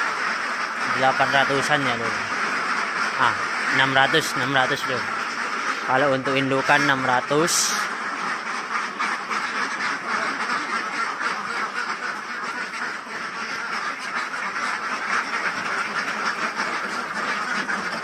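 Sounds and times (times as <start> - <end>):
flock of ducks quacking: 0.0 - 18.0.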